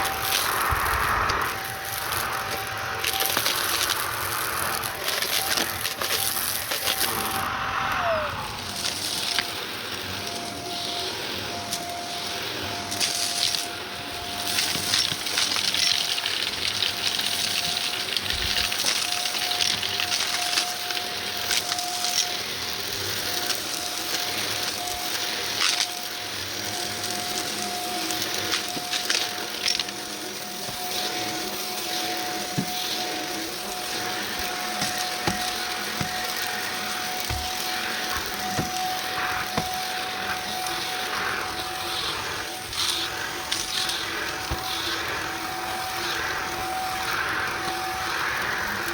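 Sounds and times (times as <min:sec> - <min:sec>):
vacuum cleaner whining: 0:00.0 - 0:48.9
vacuum sucking up gritty debris: 0:00.0 - 0:48.9.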